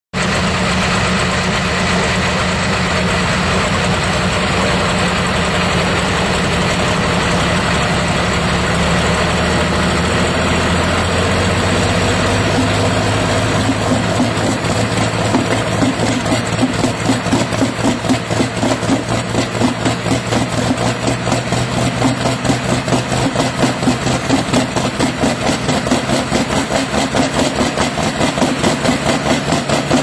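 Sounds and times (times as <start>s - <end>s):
tractor engine running loudly: 0.1s - 30.0s.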